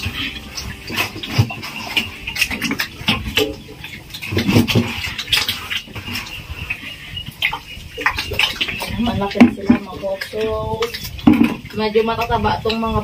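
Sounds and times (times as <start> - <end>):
pigs chewing and smacking: 0.0 - 13.0.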